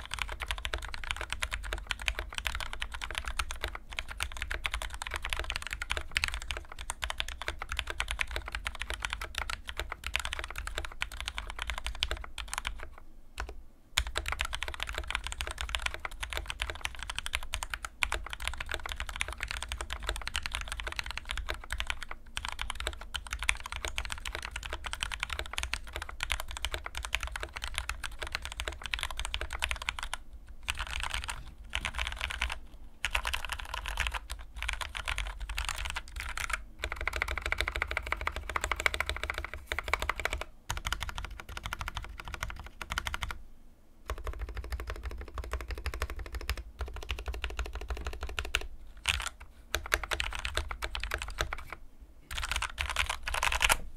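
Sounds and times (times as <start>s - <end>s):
fast mechanical keyboard typing: 0.0s - 43.4s, 44.1s - 53.8s.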